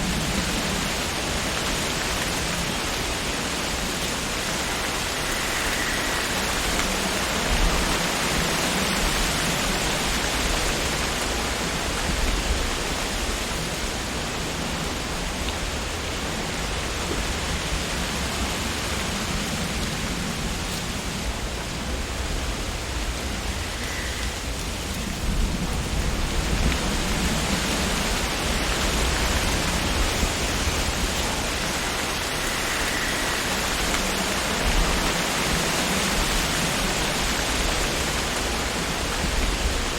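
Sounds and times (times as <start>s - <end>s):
wind rustling tree leaves: 0.0s - 39.9s.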